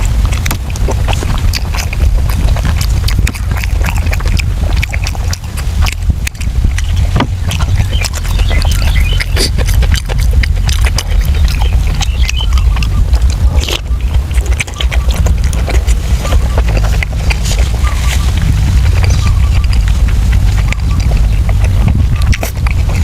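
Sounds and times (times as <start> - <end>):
steady low rumble: 0.0 - 23.0
wet chewing and lip-smacking: 0.0 - 23.0.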